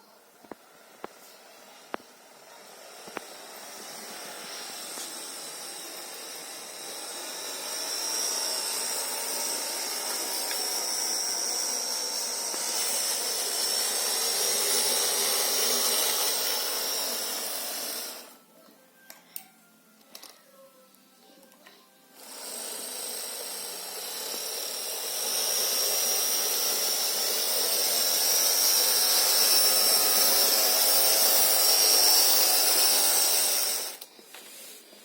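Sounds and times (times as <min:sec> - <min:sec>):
model train motor whine: 0:00.2 - 0:18.4, 0:22.1 - 0:34.1.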